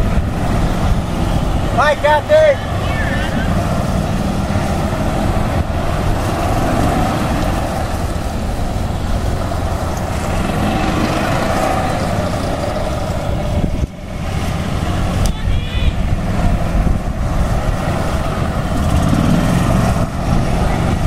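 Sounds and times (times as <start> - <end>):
golf cart motor hum: 0.0 - 21.0
wind rumble on microphone: 0.0 - 21.0.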